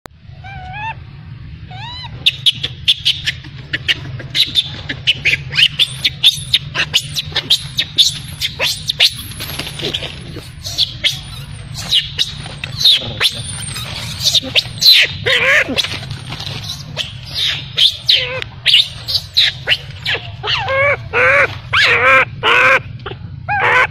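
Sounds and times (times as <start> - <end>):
baby monkey squeaking and crying: 0.4 - 1.0, 1.7 - 23.9.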